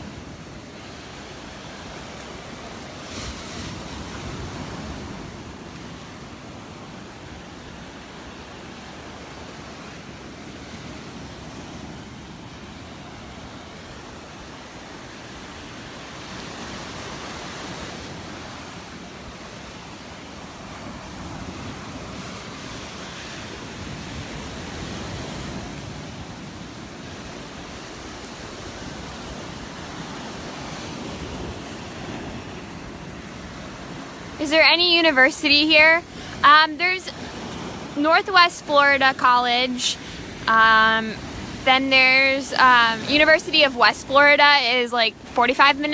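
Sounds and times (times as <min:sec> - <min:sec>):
surf breaking on beach: 0:00.0 - 0:45.9.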